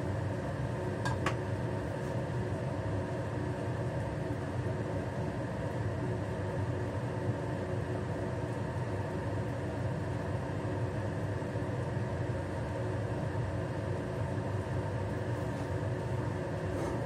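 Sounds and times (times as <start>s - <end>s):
range hood fan humming: 0.0s - 17.0s.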